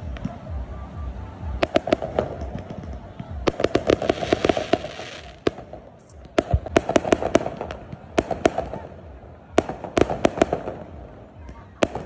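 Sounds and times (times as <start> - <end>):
fireworks cracking: 1.5 - 12.0.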